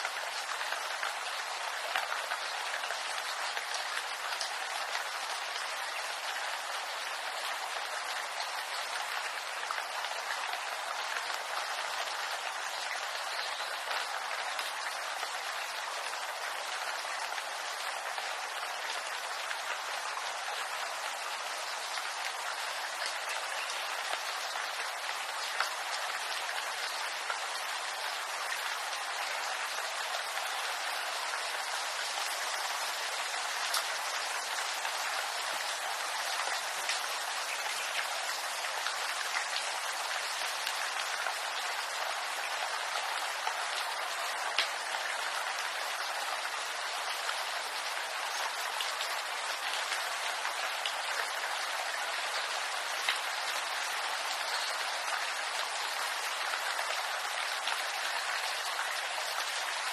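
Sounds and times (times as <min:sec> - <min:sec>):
rain falling on bamboo: 0:00.0 - 0:59.9.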